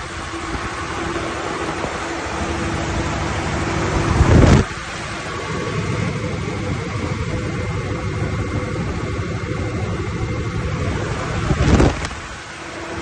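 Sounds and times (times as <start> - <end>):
diesel generator rumble: 0.0 - 13.0.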